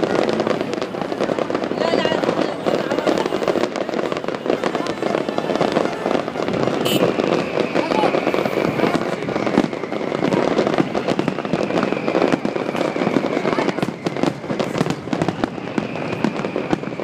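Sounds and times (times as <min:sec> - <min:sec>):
fireworks bursting: 0:00.0 - 0:17.0
fireworks crackling: 0:00.0 - 0:17.0.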